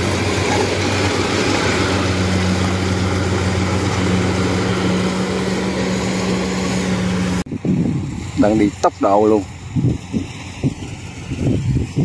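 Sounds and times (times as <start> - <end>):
combine harvester diesel engine drone: 0.0 - 12.0.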